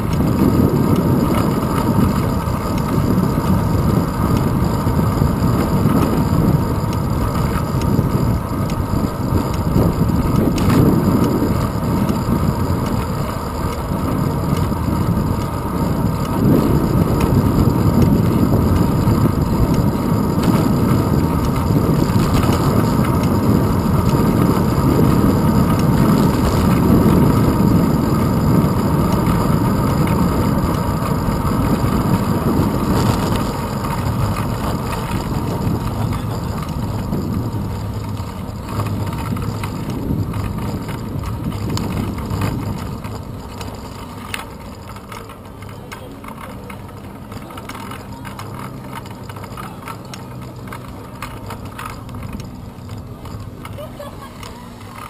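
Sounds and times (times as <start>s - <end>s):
bicycle tyres rolling on asphalt: 0.0s - 55.0s
wind buffeting camera: 0.0s - 55.0s.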